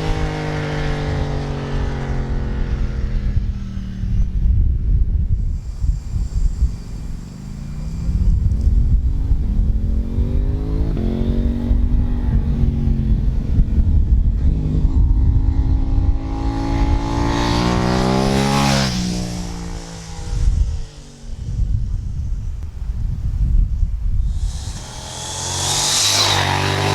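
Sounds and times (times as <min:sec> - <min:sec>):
motorcycle accelerating and shifting: 0:00.0 - 0:26.9.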